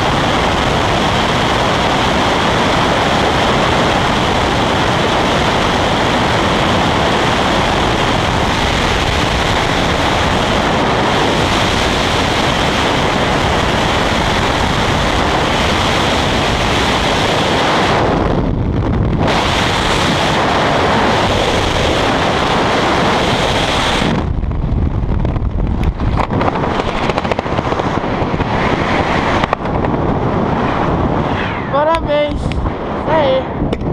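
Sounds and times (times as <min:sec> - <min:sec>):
sharp wind flutters: 0:00.0 - 0:33.9
wind rushing over microphone: 0:00.0 - 0:33.9.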